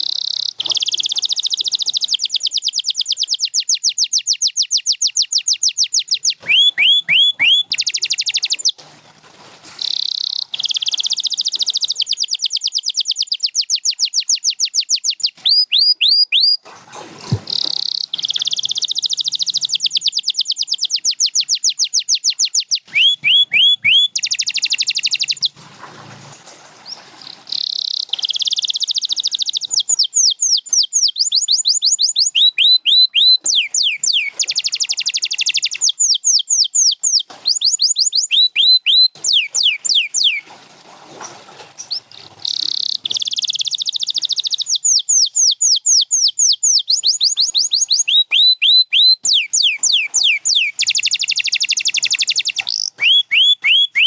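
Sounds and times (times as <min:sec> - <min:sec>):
canary singing: 0:00.0 - 0:08.8, 0:09.8 - 0:16.6, 0:17.5 - 0:25.6, 0:26.8 - 0:40.5, 0:41.8 - 0:54.0.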